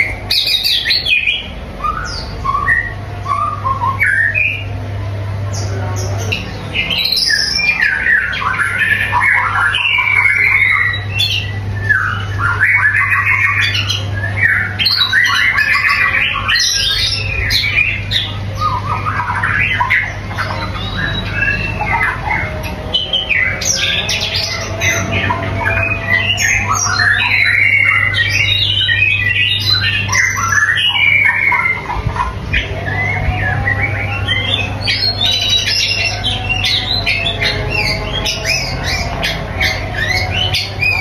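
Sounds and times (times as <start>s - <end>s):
songbird singing: 0.0s - 41.0s
steady low hum: 0.0s - 41.0s.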